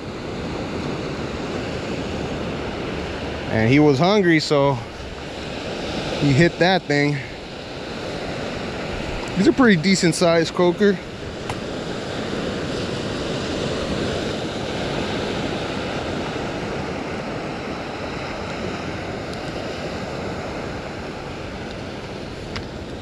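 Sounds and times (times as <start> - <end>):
ocean surf on beach: 0.0 - 23.0.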